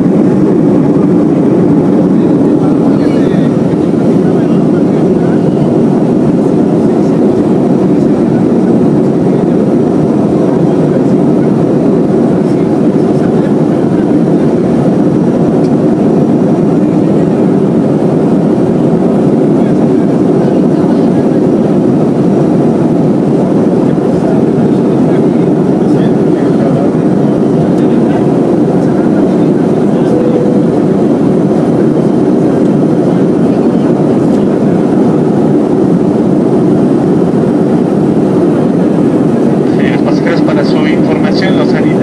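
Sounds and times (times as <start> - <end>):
airplane cabin rumble: 0.0 - 42.0.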